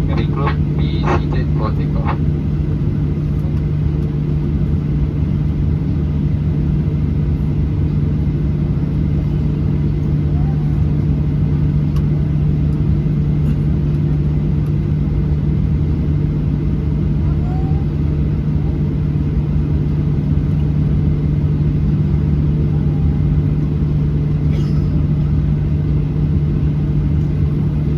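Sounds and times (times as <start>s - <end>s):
aircraft cabin engine drone: 0.0s - 27.9s.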